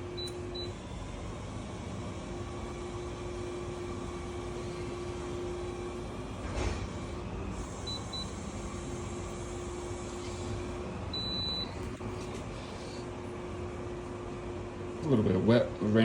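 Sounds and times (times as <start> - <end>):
wall heater fan running: 0.0 - 16.0.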